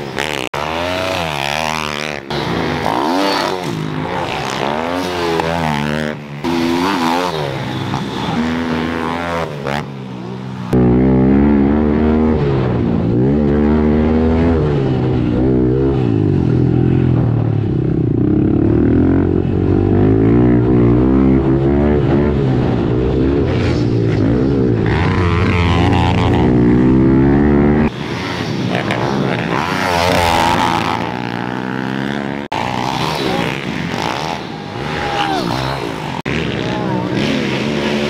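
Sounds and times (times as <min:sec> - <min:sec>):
motorbike engines revving: 0:00.0 - 0:38.0.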